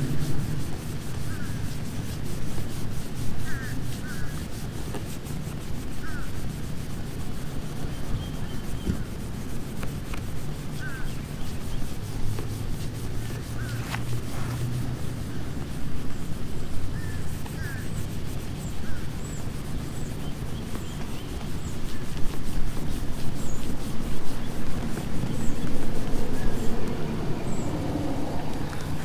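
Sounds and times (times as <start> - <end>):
towel rubbing car paint: 0.0 - 29.0.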